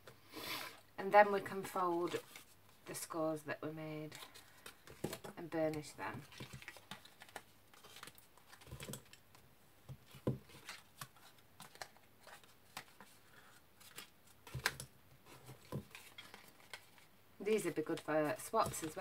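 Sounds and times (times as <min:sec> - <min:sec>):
card folding rustles and scrapes: 0:01.5 - 0:03.0, 0:04.1 - 0:09.2, 0:09.9 - 0:19.0.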